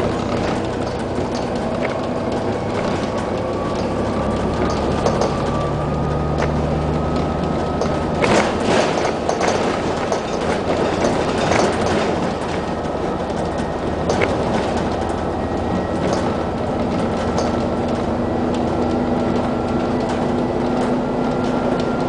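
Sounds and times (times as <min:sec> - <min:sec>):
bus engine and road noise: 0:00.0 - 0:22.0
rattles and knocks of bus body: 0:00.0 - 0:22.0.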